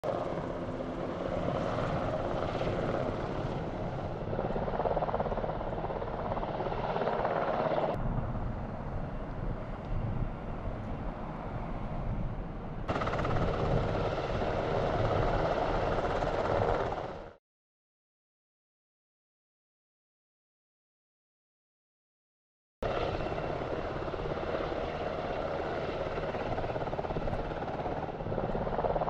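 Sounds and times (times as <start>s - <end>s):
helicopter rotor beat and engine: 0.0s - 17.4s, 22.8s - 29.0s.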